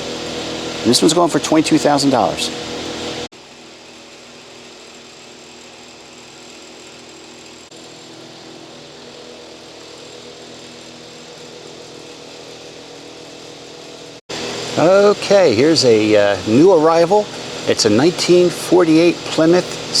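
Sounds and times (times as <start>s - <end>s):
small motor droning: 0.0s - 20.0s.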